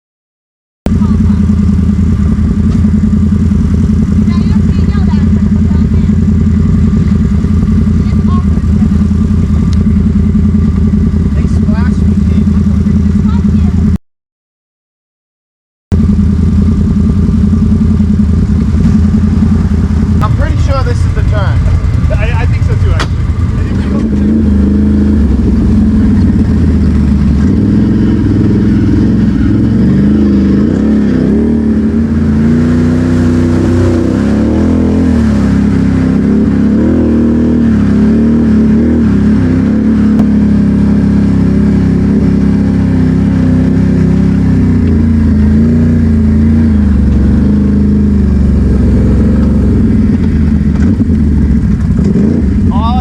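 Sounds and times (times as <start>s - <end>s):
atv engine revving: 0.9s - 14.0s, 15.9s - 53.0s.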